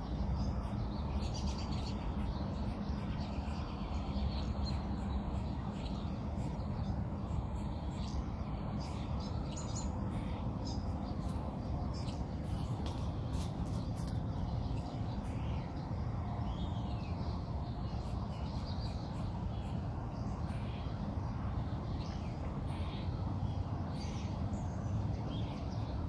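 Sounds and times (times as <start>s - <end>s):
songbirds chirping: 0.0s - 26.0s
steady low rumble: 0.0s - 26.0s.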